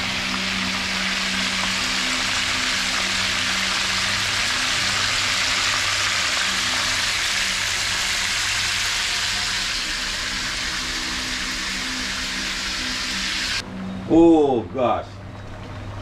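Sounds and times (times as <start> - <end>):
meat sizzling in oil: 0.0 - 13.6
low hum: 0.0 - 16.0.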